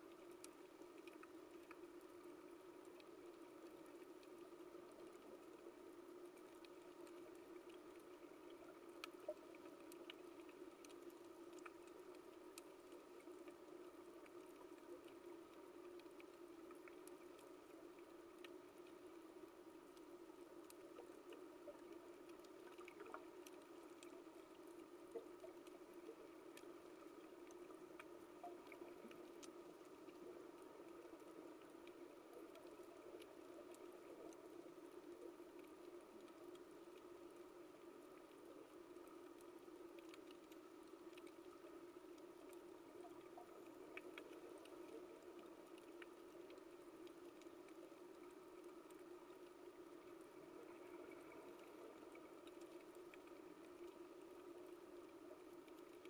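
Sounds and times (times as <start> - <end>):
reef clicks and crackles: 0.0 - 56.0
underwater low hum: 0.0 - 56.0.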